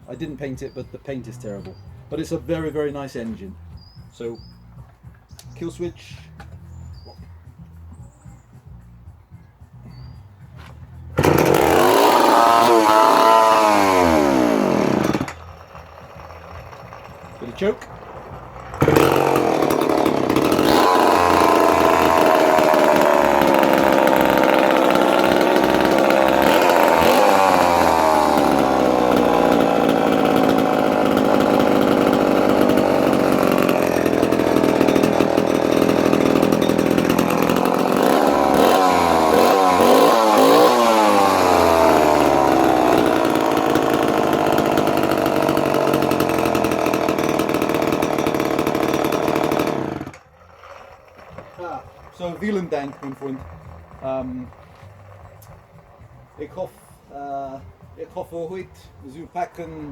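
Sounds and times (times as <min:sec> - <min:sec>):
chainsaw engine revving: 0:00.0 - 0:04.4, 0:11.0 - 0:59.9.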